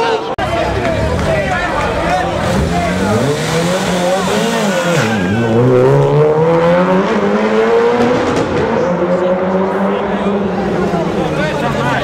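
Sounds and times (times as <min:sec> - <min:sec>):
car engine accelerating in tunnel: 0:01.0 - 0:11.6.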